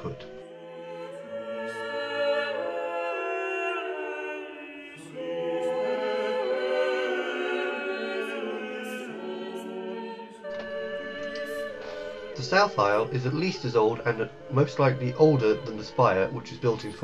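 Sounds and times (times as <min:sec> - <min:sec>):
choir singing sustained chords: 0:00.0 - 0:17.0.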